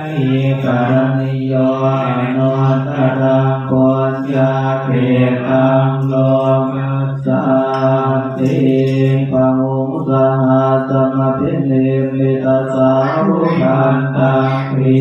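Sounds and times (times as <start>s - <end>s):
monks chanting through a microphone: 0.0s - 15.0s.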